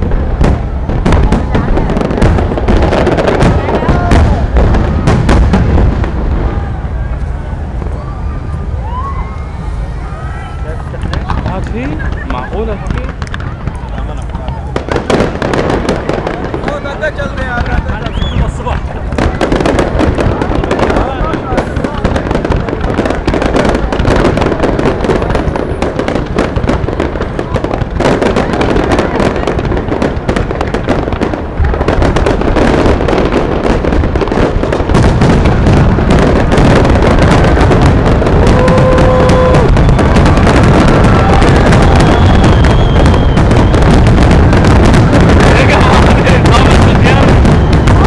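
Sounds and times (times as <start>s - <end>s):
fireworks bursting and crackling: 0.0s - 48.0s
heavy low rumble: 0.0s - 48.0s.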